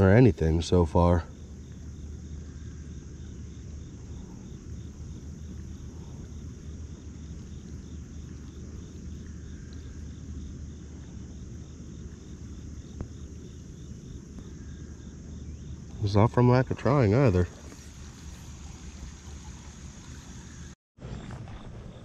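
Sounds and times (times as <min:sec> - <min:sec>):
insect chirping: 0:00.0 - 0:20.8.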